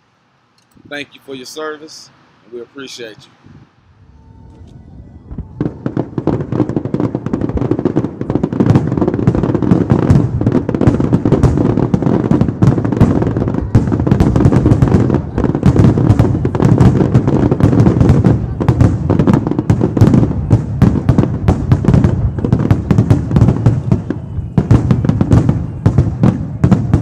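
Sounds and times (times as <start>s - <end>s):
fireworks bangs and crackling: 0.8s - 3.8s, 4.5s - 27.0s.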